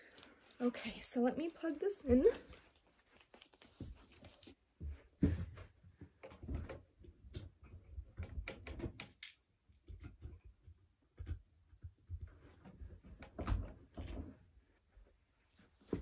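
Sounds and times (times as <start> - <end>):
clicks and knocks of handling objects: 1.9 - 15.0.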